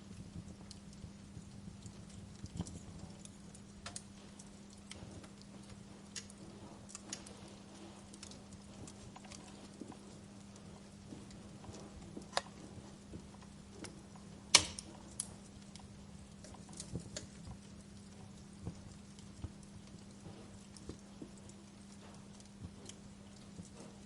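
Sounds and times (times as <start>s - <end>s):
soft fire hiss: 0.0s - 24.0s
wood fire crackling and popping: 0.0s - 24.0s.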